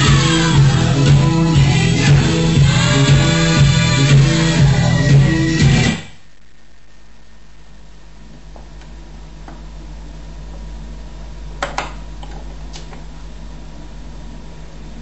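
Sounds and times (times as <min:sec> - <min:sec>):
turntable low hum: 0:00.0 - 0:15.0.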